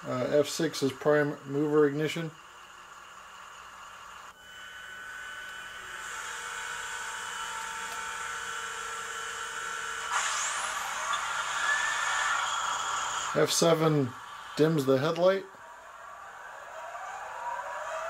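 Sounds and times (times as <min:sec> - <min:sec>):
model train diesel engine sound: 0:00.0 - 0:17.6.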